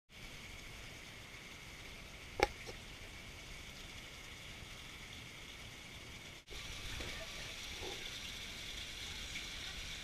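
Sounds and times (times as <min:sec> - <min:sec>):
faint steady hiss: 0:00.1 - 0:10.0.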